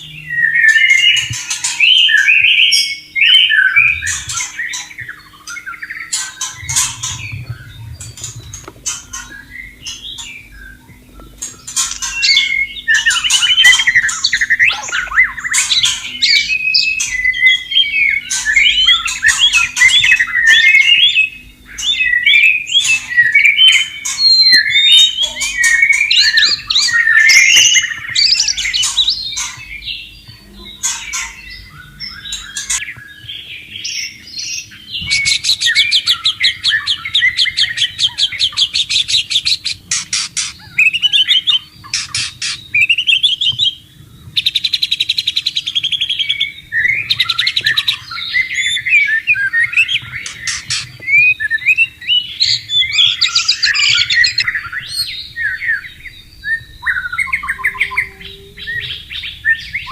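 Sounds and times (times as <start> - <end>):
bird singing whistled phrases: 0.0 - 8.5, 9.1 - 59.9.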